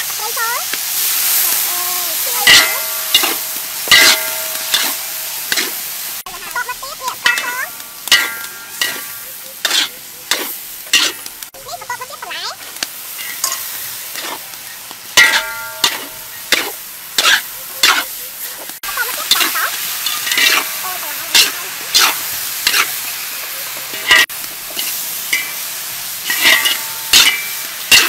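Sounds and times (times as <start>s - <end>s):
food sizzling: 0.0s - 28.0s
metal spatula scraping a wok: 0.7s - 11.6s, 12.6s - 28.0s.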